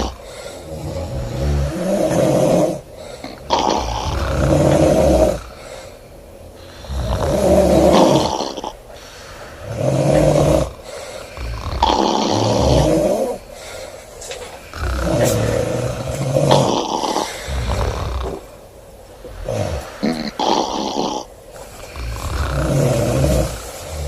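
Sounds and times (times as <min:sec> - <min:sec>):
woman snoring loudly: 0:00.0 - 0:05.6, 0:06.6 - 0:08.8, 0:09.5 - 0:13.4, 0:14.7 - 0:18.5, 0:19.3 - 0:24.0.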